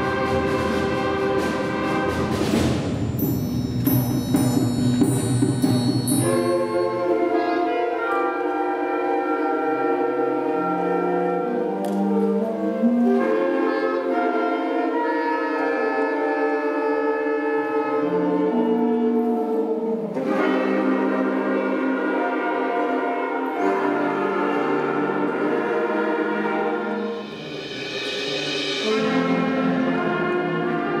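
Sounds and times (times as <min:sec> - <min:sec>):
concert band playing: 0:00.0 - 0:31.0.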